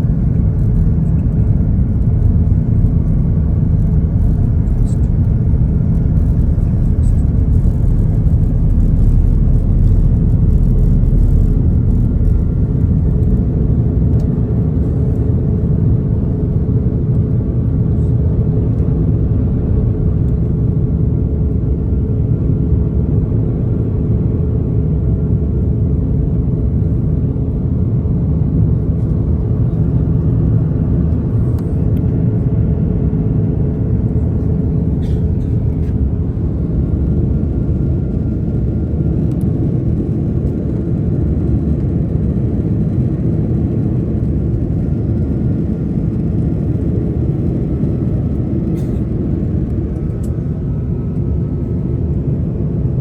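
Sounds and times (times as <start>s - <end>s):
steady hum: 0.0s - 24.4s, 25.3s - 53.0s
airliner cabin engine rumble: 0.0s - 53.0s.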